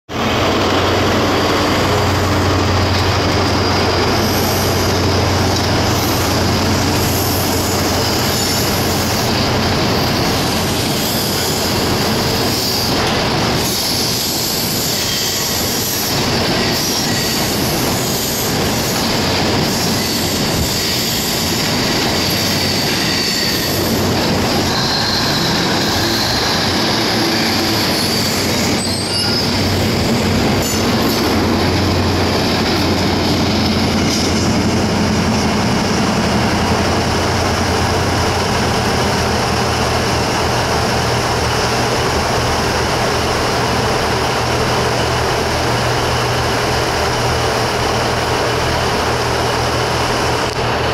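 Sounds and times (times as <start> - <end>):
train wheels rumbling on rails: 0.1 - 50.9.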